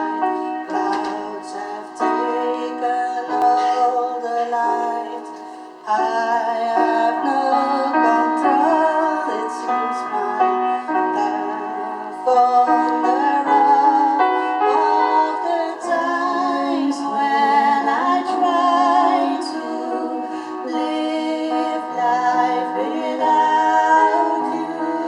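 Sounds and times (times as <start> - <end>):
piano accompaniment: 0.0 - 25.0
woman singing: 0.0 - 25.0.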